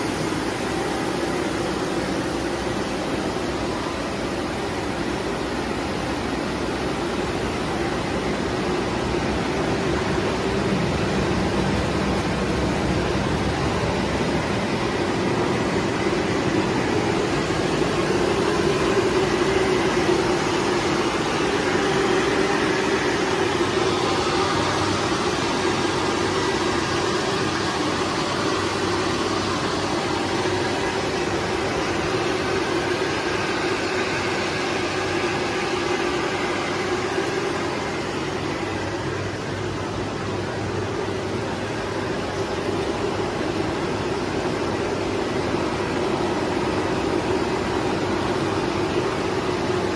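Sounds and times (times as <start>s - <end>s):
low machine hum: 0.0s - 49.9s
printing machine rollers whirring: 0.0s - 49.9s.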